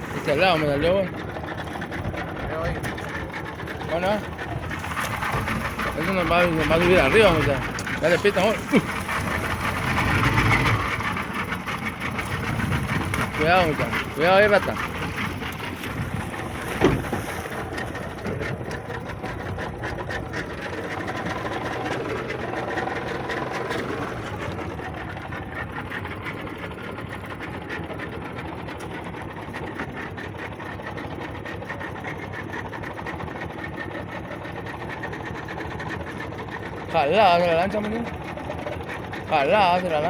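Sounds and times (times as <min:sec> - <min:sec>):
outboard motor chattering: 0:00.0 - 0:40.0.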